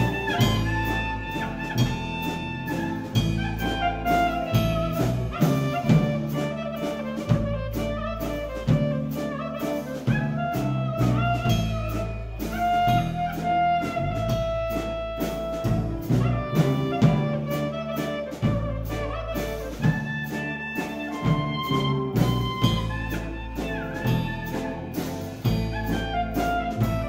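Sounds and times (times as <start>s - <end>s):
clarinet melody: 0.0s - 27.0s
electric bass: 0.0s - 27.0s
guitars: 0.0s - 27.0s
loud drums: 0.0s - 27.0s.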